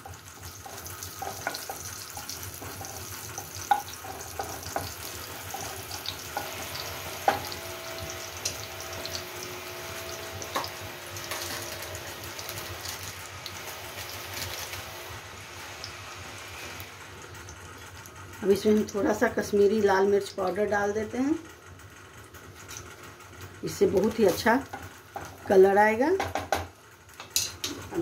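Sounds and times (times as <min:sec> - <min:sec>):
spices sizzling and popping in oil: 0:00.0 - 0:21.2, 0:21.9 - 0:28.0.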